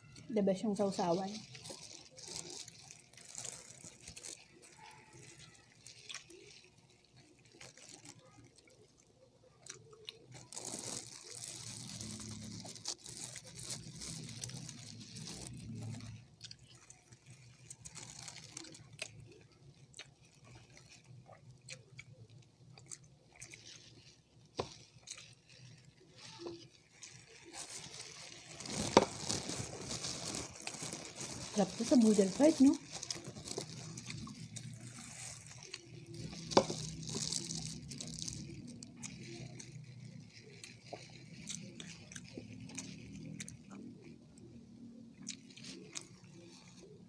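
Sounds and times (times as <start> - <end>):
chewing and wet mouth noises: 0.0 - 47.0.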